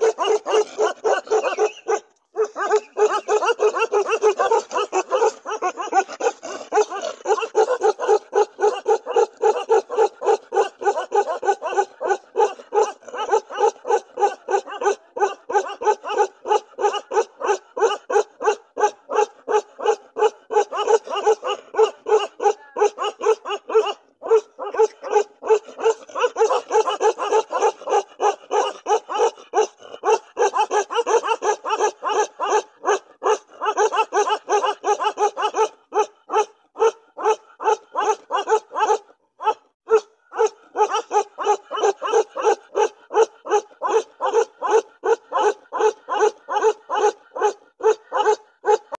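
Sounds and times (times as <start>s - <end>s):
dogs barking: 0.0s - 48.9s.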